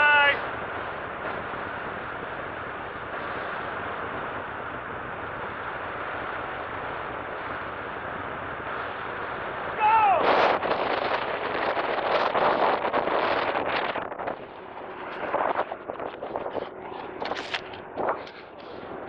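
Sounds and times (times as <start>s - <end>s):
propeller plane engines droning: 0.0s - 19.0s
wind rushing: 0.0s - 19.0s.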